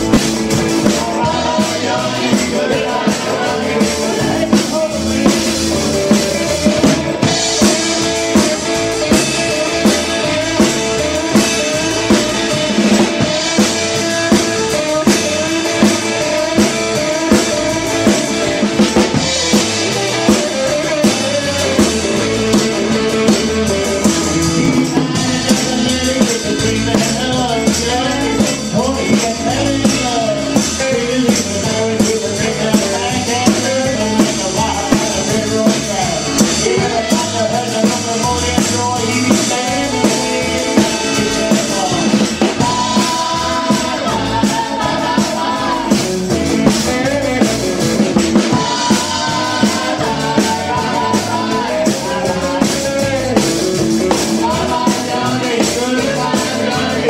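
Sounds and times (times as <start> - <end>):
electric guitars: 0.0 - 57.0
steady drum beat: 0.0 - 57.0.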